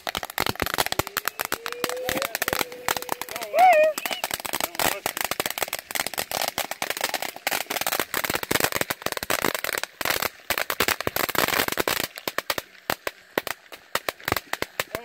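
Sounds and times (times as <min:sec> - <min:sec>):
firework sparks crackling: 0:00.0 - 0:15.0.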